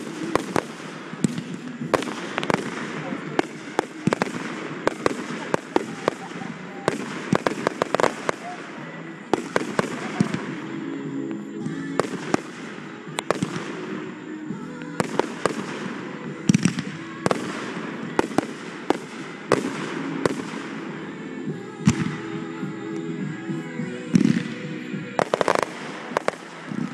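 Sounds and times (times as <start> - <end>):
fireworks sharp bangs: 0.0 - 26.9.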